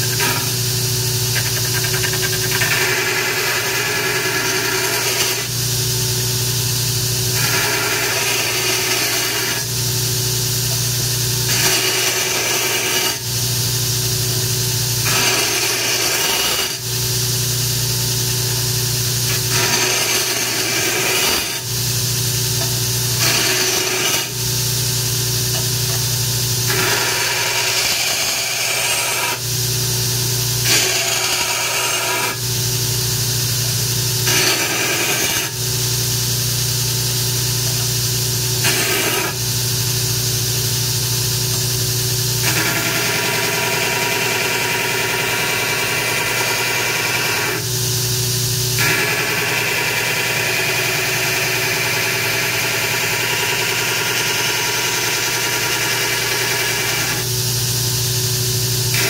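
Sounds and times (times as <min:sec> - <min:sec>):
belt grinder running: 0:00.0 - 0:59.0.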